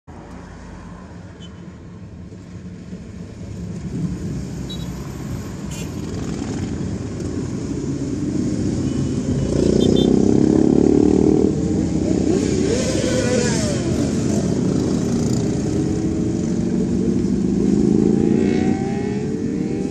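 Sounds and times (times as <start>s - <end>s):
motorcycles passing: 0.2s - 19.9s.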